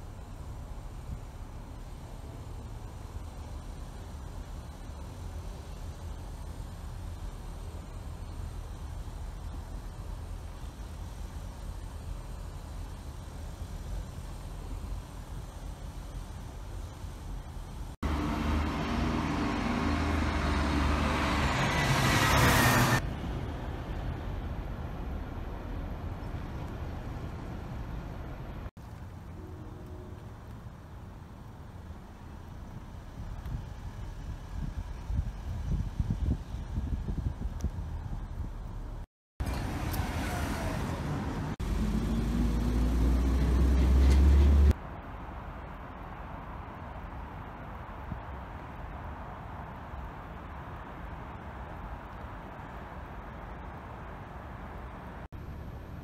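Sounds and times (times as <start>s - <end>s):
quiet street traffic: 0.0s - 56.0s
vehicle engine and tyre noise: 0.0s - 56.0s.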